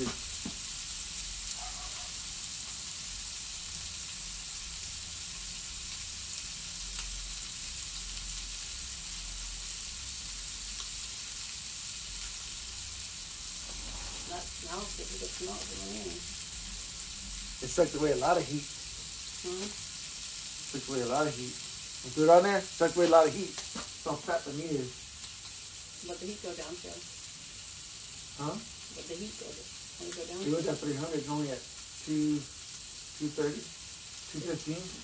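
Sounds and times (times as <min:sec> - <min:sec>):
steaks sizzling on griddle: 0:00.0 - 0:35.0.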